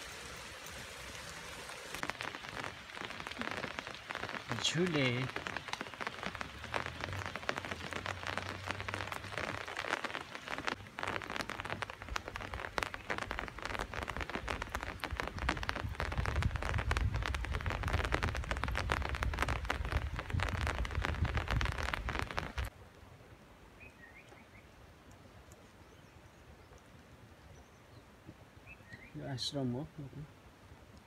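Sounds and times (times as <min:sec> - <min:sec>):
rain pattering: 0:00.0 - 0:31.0.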